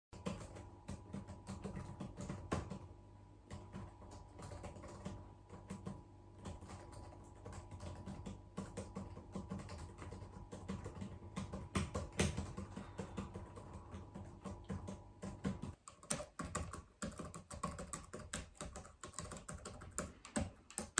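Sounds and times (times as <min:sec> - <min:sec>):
faint steady hum: 0:00.2 - 0:20.9
laptop keyboard typing: 0:00.2 - 0:20.9.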